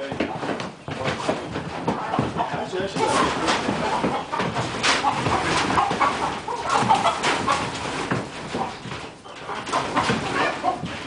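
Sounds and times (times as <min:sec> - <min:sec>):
rooster clucking and squawking: 0:01.8 - 0:11.0.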